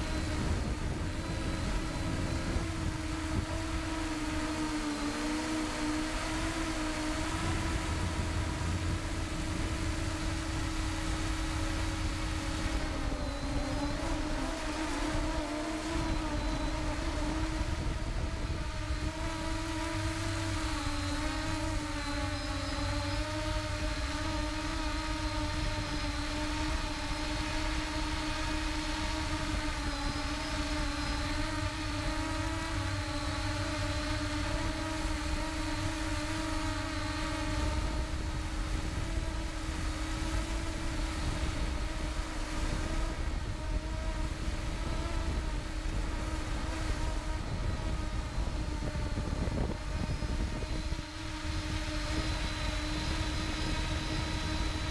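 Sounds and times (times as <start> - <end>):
engine droning: 0.0 - 54.9.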